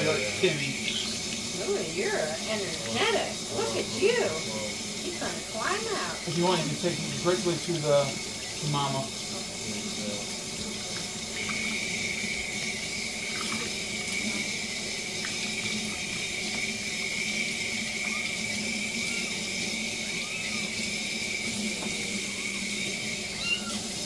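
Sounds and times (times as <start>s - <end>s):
faucet running into metal sink: 0.0s - 24.0s.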